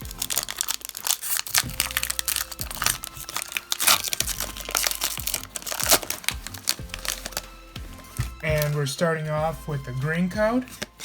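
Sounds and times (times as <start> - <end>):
faint background music: 0.0 - 11.0
foil wrapper crinkling and tearing: 0.0 - 11.0.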